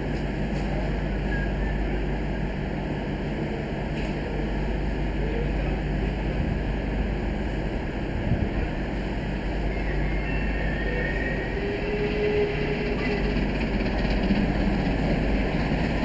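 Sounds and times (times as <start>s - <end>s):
steam train rumbling: 0.0s - 16.0s.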